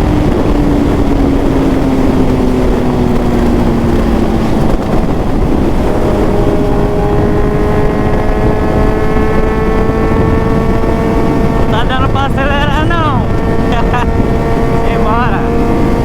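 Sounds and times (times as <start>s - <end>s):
motorcycle engine: 0.0s - 16.0s
wind noise: 0.0s - 16.0s.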